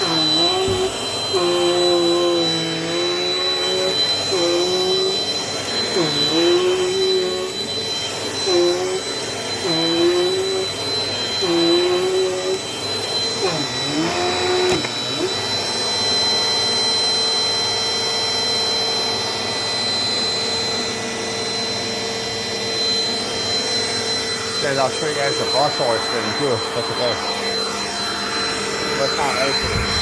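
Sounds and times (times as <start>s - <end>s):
vacuum cleaner motor whine: 0.0s - 30.0s.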